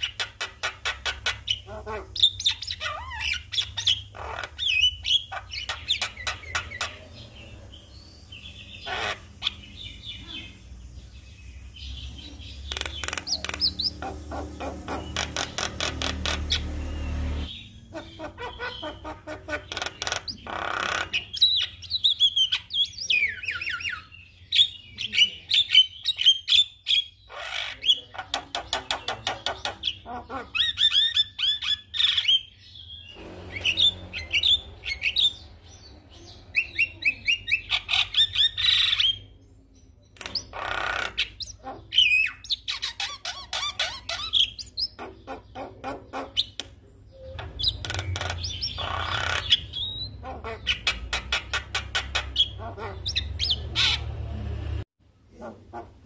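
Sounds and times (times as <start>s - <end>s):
bird singing: 0.0s - 54.5s.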